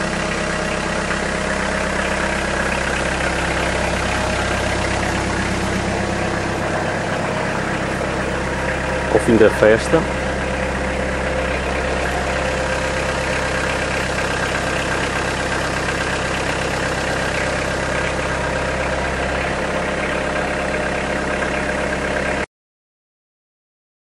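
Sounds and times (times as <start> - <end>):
engine idling: 0.0 - 22.5.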